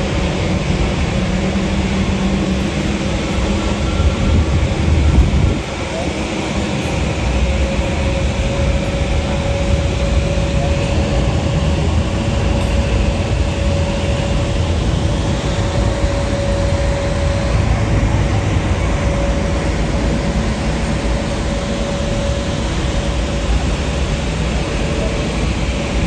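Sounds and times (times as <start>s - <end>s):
loud engine rumble: 0.0s - 26.0s
mid-pitched hum: 0.0s - 26.0s.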